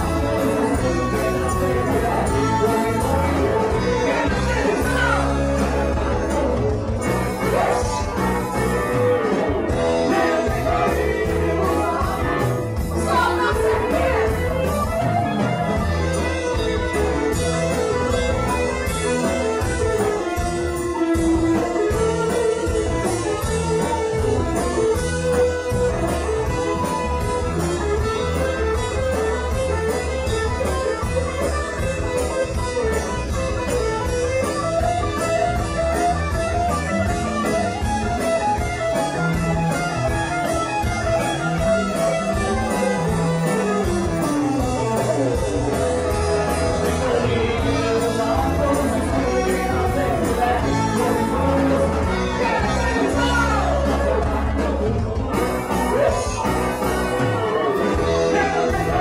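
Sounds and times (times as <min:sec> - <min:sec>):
bass guitar: 0:00.0 - 0:59.0
drum rhythm: 0:00.0 - 0:59.0
electric guitar melody: 0:00.0 - 0:59.0.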